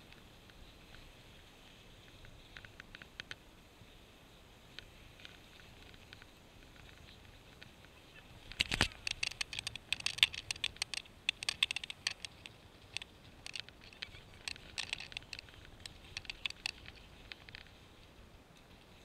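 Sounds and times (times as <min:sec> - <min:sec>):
skis clicking over snow: 0:00.0 - 0:19.0.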